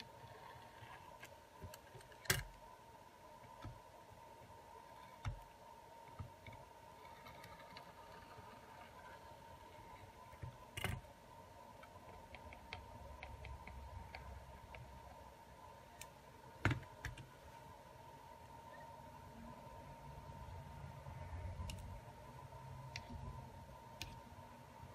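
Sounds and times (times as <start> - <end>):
faint high whine: 0.0 - 24.9.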